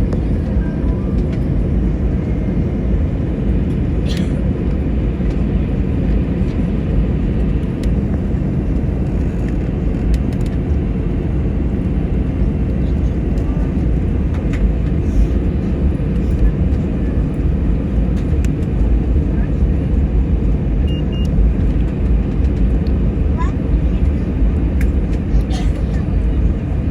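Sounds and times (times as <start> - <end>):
aircraft cabin rumble: 0.0 - 26.9.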